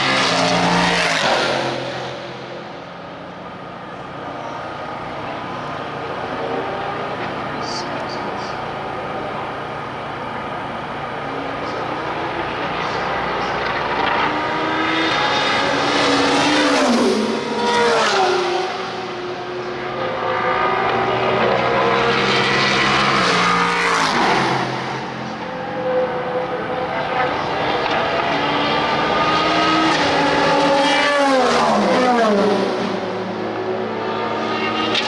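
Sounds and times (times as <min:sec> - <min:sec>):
racing cars passing at speed: 0:00.0 - 0:35.0.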